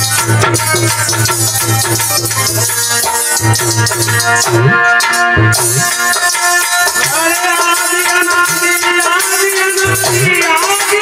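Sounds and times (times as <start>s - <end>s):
harmonium playing held chords: 0.0s - 11.0s
rattling percussion: 0.0s - 11.0s.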